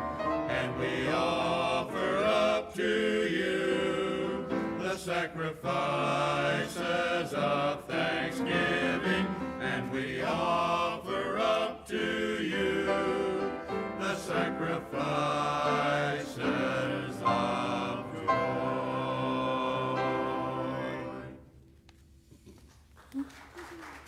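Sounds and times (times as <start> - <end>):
men's chorus singing: 0.4 - 21.4.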